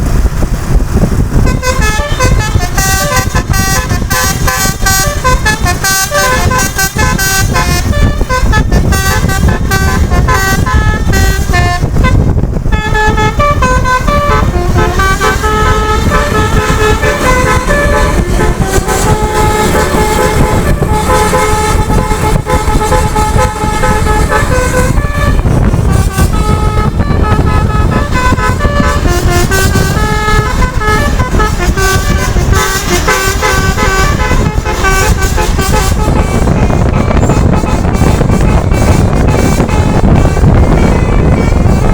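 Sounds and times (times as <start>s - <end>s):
bus horn playing a melody: 0.0s - 41.9s
bus rumbling on the road: 0.0s - 41.9s.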